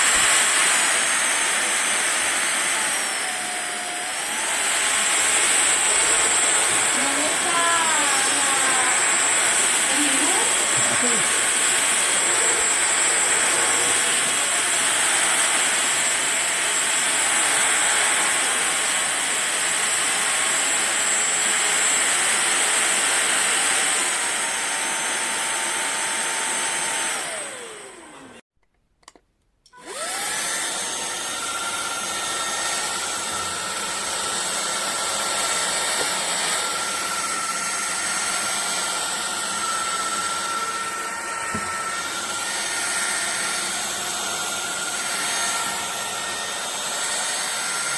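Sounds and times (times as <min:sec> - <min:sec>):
stick vacuum cleaner motor: 0:00.0 - 0:28.4, 0:29.7 - 0:47.9.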